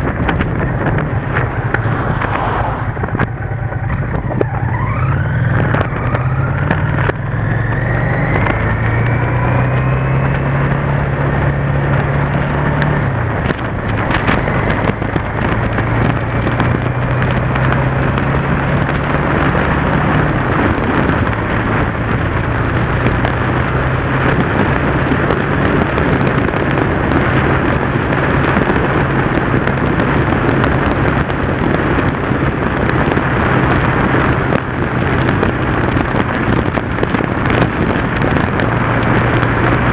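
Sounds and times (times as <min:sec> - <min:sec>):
motorcycle engine accelerating: 0:00.0 - 0:39.9
wind rush on camera: 0:00.0 - 0:39.9.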